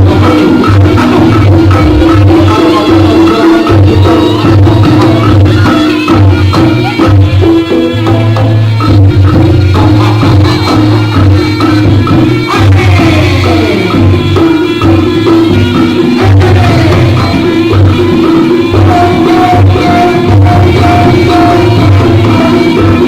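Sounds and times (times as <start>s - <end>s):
drums and shakers beat: 0.0s - 23.0s
sliding melody line: 0.0s - 23.0s.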